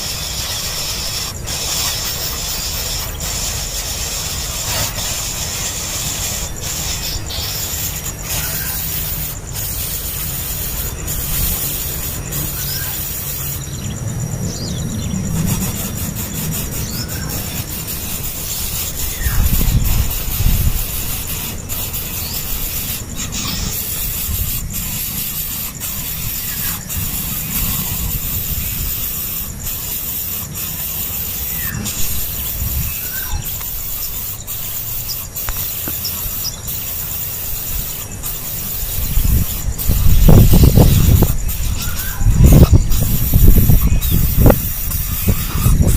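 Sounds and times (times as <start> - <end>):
nestlings peeping: 0.0 - 45.9.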